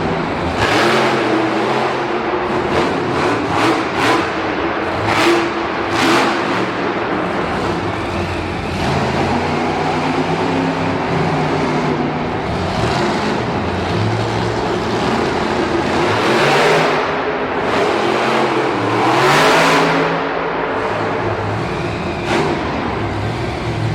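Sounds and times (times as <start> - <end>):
monster truck engine revving: 0.0 - 23.9.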